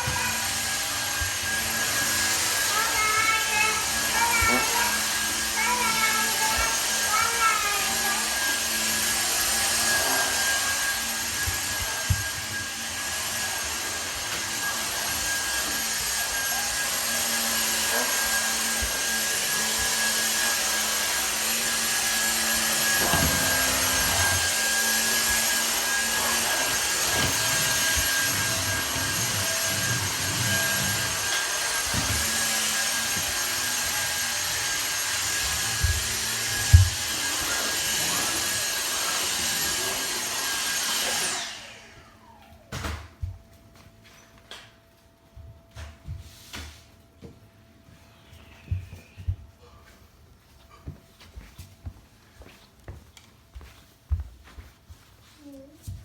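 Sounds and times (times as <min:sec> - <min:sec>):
vacuum cleaner running: 0:00.0 - 0:44.6, 0:45.2 - 0:50.0.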